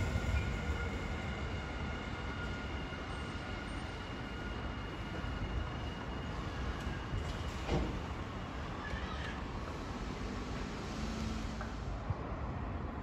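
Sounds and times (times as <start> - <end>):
electric train rumbling: 0.0 - 12.6.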